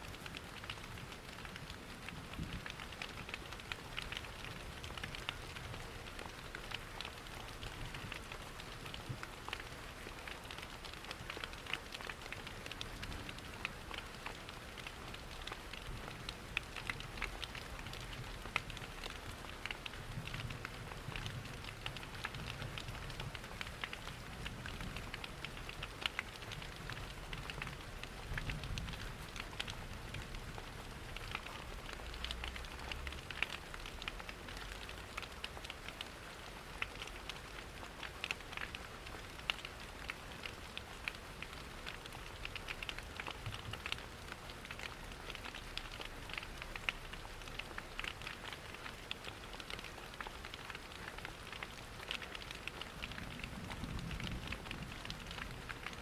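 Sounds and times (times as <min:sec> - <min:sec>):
crackling wood fire: 0:00.0 - 0:56.0
rain patter: 0:00.0 - 0:56.0.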